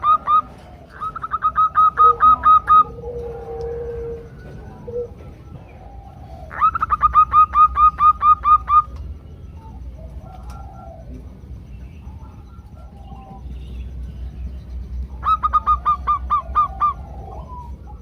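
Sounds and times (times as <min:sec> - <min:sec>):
faint low cooing: 0:00.0 - 0:07.0, 0:08.6 - 0:14.0, 0:15.1 - 0:18.0.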